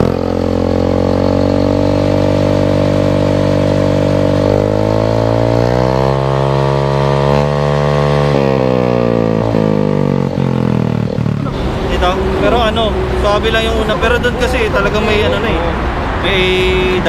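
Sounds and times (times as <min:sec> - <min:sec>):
scooter engine idling and revving: 0:00.0 - 0:17.0.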